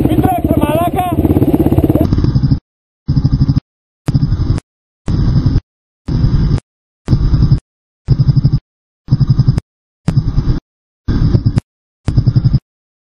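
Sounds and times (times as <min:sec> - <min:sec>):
dirt bike engine running: 0:00.0 - 0:06.4, 0:08.2 - 0:12.6.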